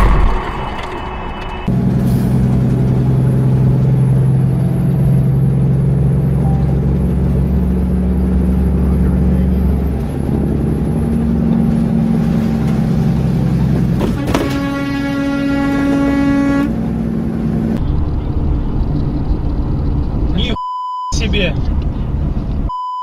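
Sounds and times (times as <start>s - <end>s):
vehicle engine and tyre drone: 0.0s - 22.8s.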